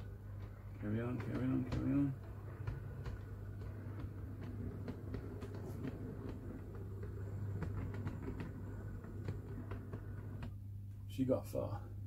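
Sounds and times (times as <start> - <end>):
model train motor hum: 0.0 - 10.5
wheels clicking over rail joints: 0.0 - 10.6.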